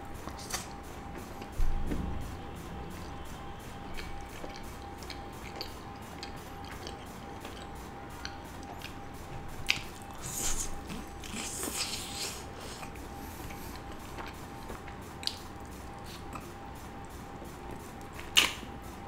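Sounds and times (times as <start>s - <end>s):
chewing chicken: 0.2s - 1.6s, 3.8s - 18.8s.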